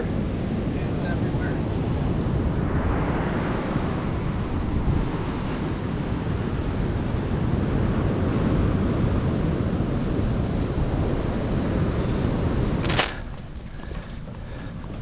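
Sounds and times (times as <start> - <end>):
ocean surf: 0.0 - 12.8
wind noise on microphone: 0.0 - 15.0.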